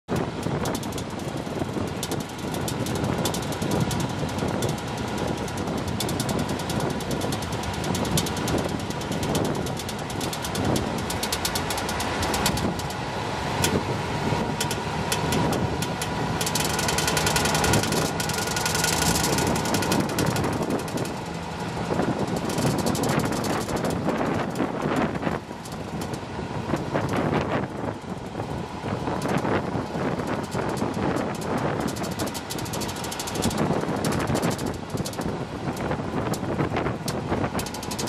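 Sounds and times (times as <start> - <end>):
rapid irregular clicking: 0.1 - 13.0, 13.6 - 38.0
pickup truck engine running: 0.1 - 38.0.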